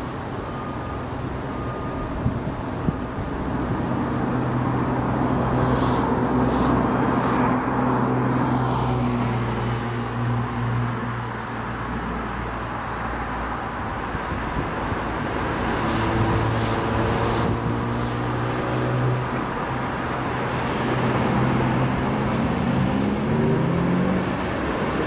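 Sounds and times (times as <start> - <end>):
traffic noise: 0.0 - 25.0
vehicle engine hum: 0.0 - 25.0.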